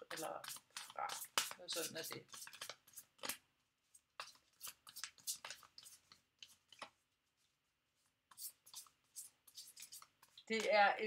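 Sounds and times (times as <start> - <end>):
cards shuffling: 0.0 - 7.0, 8.3 - 10.8.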